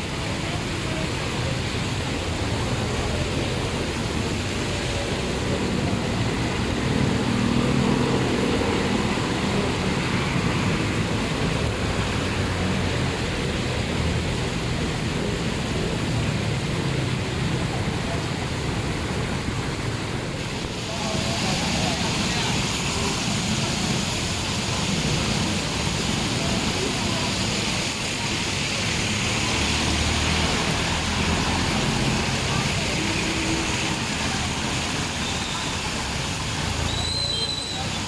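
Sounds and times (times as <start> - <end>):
heavy rain pouring: 0.0 - 38.0
tyres splashing through water: 0.0 - 38.0
vehicle engines: 0.0 - 38.0.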